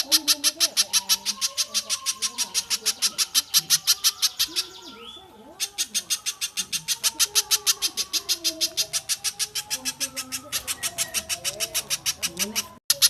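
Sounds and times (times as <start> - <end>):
fast sharp bird chatter: 0.0 - 13.0.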